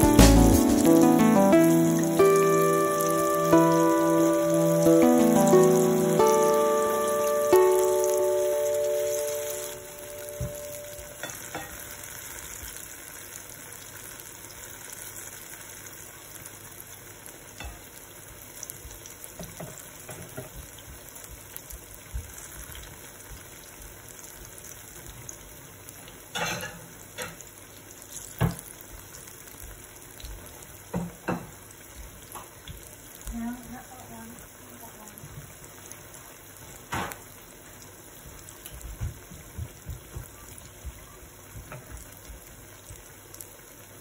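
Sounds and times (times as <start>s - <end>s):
fritters sizzling in oil: 0.0s - 44.0s.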